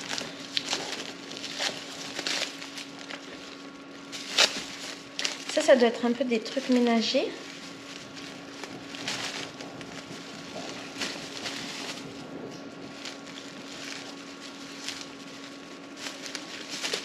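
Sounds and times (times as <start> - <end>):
faint steady hum: 0.0 - 17.0
plastic bag rustling: 0.0 - 17.0.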